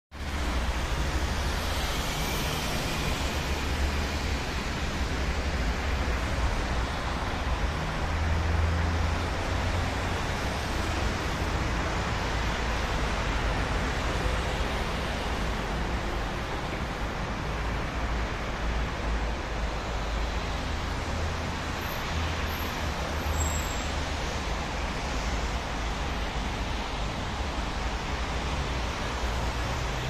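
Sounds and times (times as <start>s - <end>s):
road traffic noise: 0.1s - 30.0s.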